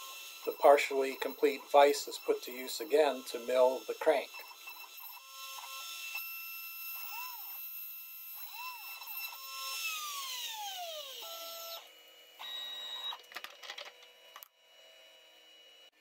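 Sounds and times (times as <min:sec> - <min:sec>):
stepper motor tones: 0:00.0 - 0:15.8
motor whines: 0:00.0 - 0:15.9
router spindle whine: 0:00.0 - 0:16.0.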